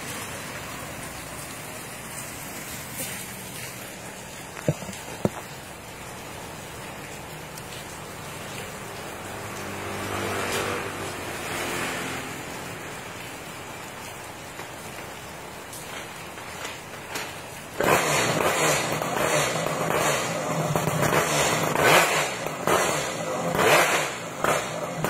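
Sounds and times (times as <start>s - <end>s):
rain on wet pavement: 0.0s - 25.0s
vehicle passing on wet road: 0.0s - 25.0s.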